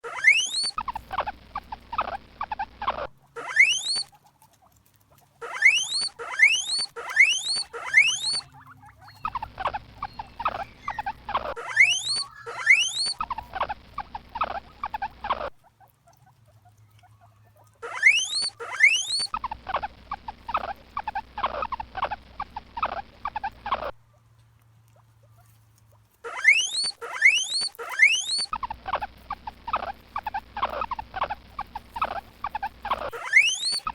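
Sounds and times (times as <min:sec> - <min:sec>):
rapid short squeaks: 0:00.0 - 0:04.1, 0:05.4 - 0:15.6, 0:17.8 - 0:24.0, 0:26.2 - 0:33.9
guinea pigs wheeking: 0:00.0 - 0:33.9.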